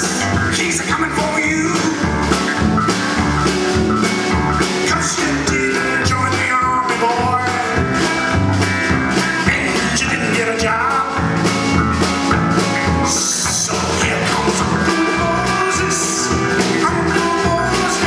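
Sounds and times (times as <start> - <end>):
drum kit beat: 0.0 - 18.0
rock band playing live: 0.0 - 18.0.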